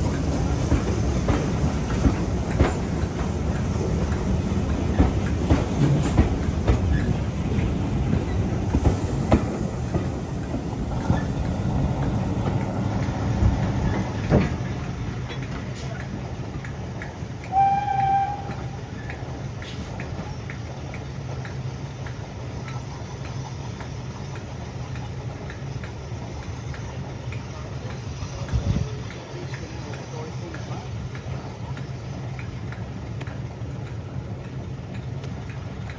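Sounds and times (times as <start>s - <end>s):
low train rumble: 0.0s - 35.9s
train wheels clicking on rails: 0.0s - 35.9s.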